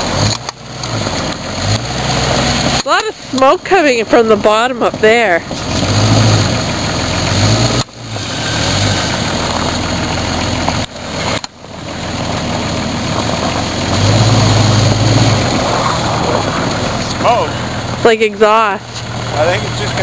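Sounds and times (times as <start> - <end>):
suv engine running under load: 0.0 - 20.0.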